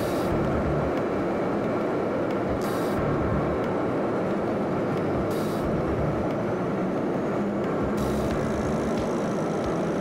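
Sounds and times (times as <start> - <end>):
jet engines and wheels roaring: 0.0 - 10.0.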